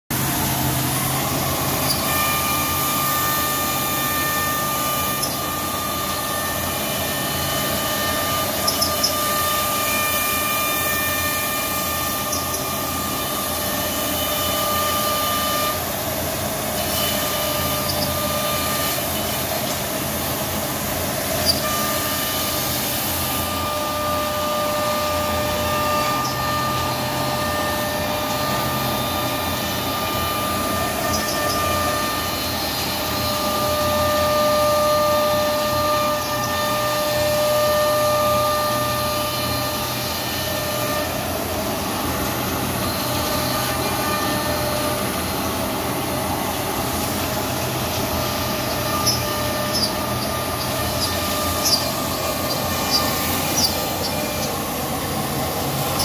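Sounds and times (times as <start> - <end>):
router spindle routing wood: 0.1 - 56.0.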